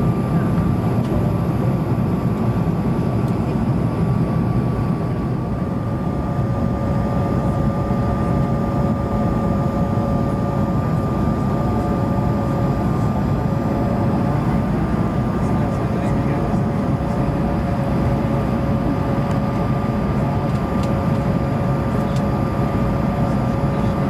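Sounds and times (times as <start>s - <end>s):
airliner cabin roar: 0.0s - 24.0s
lower whine: 0.0s - 24.0s
thin steady whine: 0.0s - 24.0s.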